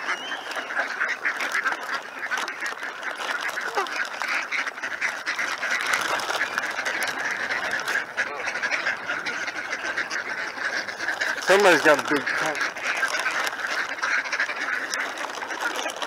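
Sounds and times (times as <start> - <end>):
ducks and geese quacking and honking: 0.0 - 16.0.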